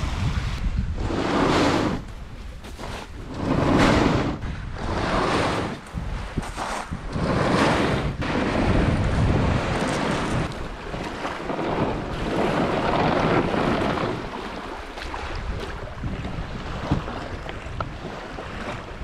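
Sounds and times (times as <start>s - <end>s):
waves lapping on shingle: 0.0s - 19.0s
wind buffeting microphone: 0.0s - 19.0s.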